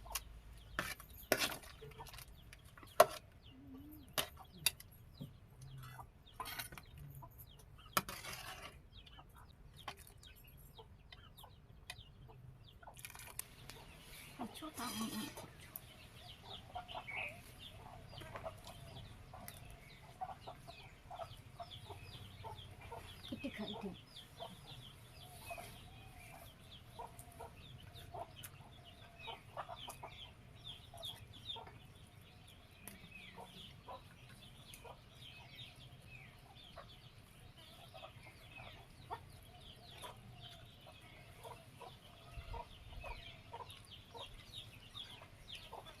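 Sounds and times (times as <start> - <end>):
chickens clucking: 1.0 - 46.0.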